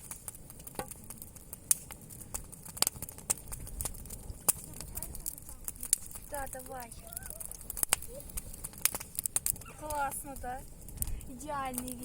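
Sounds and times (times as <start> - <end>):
campfire wood crackling: 0.0 - 12.0.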